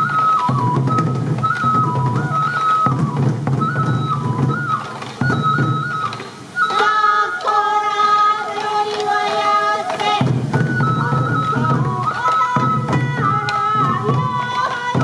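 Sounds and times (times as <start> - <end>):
bamboo flute melody: 0.0 - 15.0
taiko drumming: 0.0 - 15.0.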